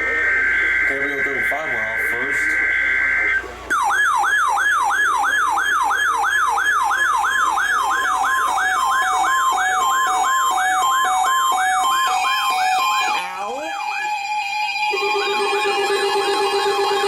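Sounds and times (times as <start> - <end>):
alarm siren pitch sweep: 0.0 - 17.0
alternating two-tone beeps: 0.0 - 17.0.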